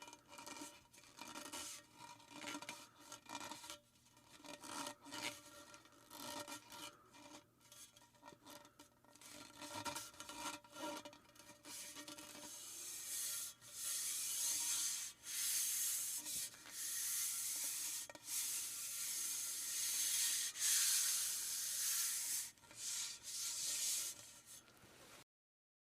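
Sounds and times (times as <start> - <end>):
rod rubbing and scraping: 0.0 - 25.2.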